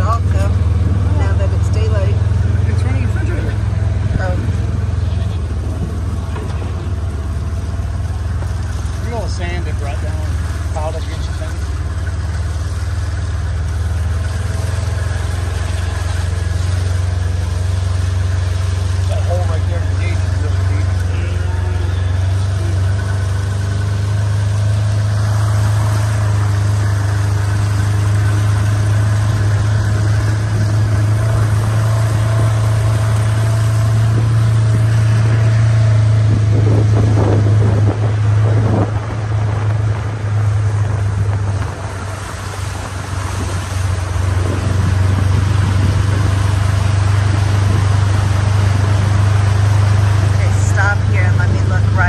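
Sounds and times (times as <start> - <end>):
vehicle humming: 0.0 - 52.0.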